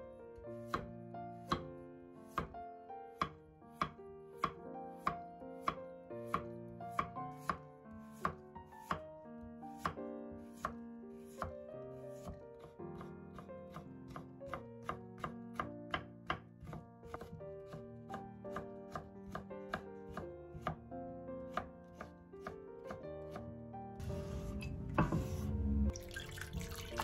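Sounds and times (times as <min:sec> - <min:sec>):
soft background music: 0:00.0 - 0:27.0.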